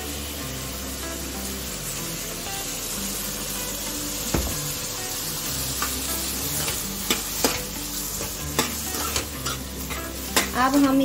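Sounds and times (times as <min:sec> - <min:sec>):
tomatoes and onions sizzling: 0:00.0 - 0:11.0.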